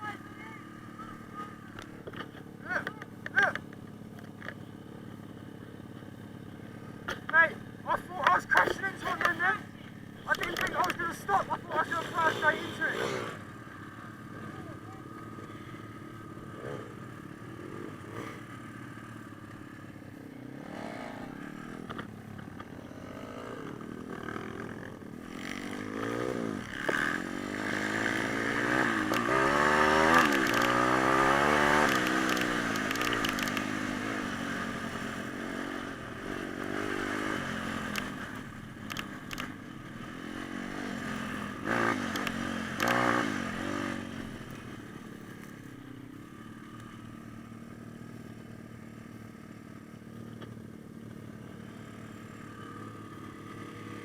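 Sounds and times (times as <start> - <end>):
small motorcycle engine revving: 0.0 - 54.0.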